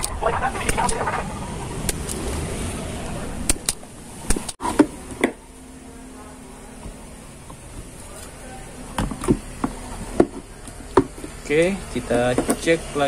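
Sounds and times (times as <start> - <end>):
noisy background: 0.0 - 13.0.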